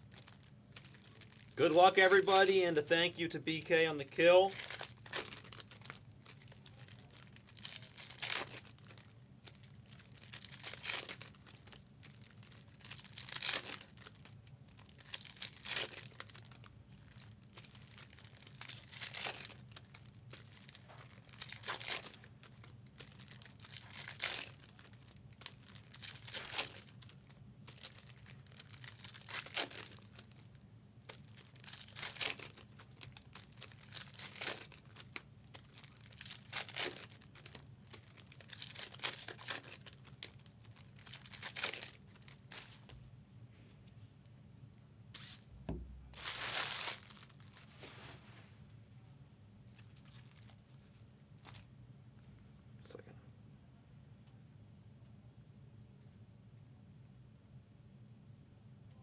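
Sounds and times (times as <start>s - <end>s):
foil wrappers crinkling and tearing: 0.0s - 43.1s, 46.1s - 48.3s, 49.7s - 51.7s.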